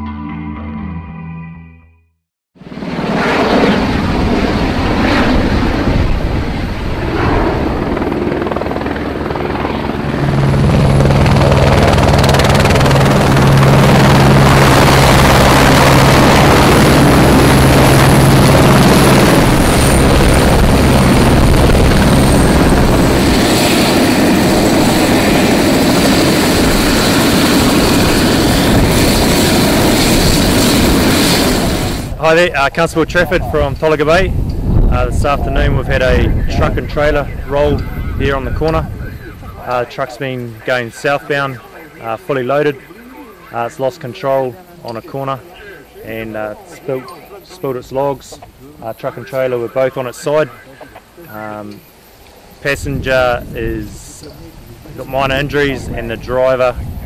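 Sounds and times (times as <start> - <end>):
helicopter rotor and engine: 2.6 - 57.0.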